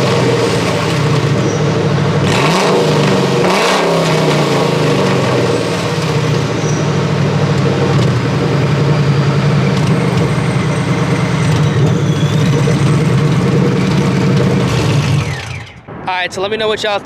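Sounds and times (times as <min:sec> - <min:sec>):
loud deep car engine idling: 0:00.0 - 0:15.7.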